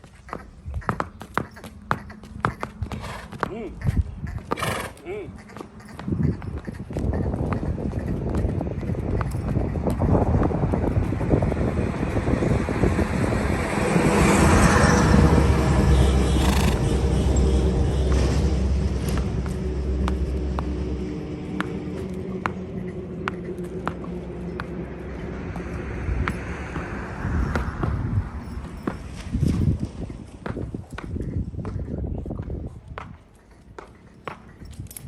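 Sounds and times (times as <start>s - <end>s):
vehicle engine rumbling: 1.2s - 32.1s.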